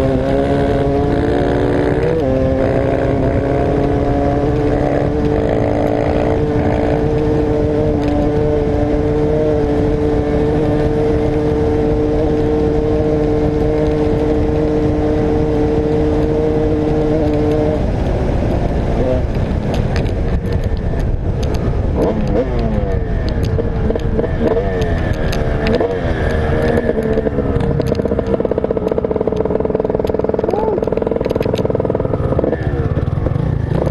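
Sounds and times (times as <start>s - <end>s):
motocross bike engine revving: 0.0s - 20.0s, 21.9s - 33.9s
wind buffeting microphone: 0.0s - 33.9s.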